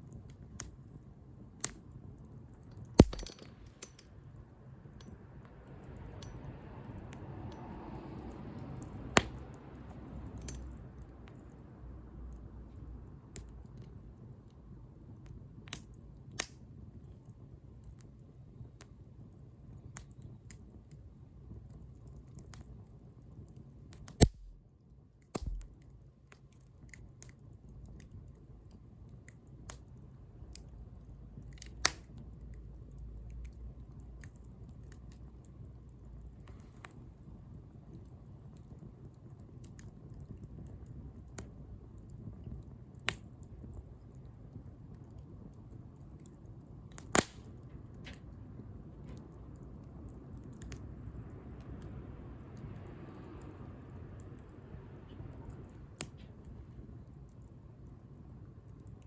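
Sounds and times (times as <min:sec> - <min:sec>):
wood bonfire crackling: 0:00.0 - 0:59.0.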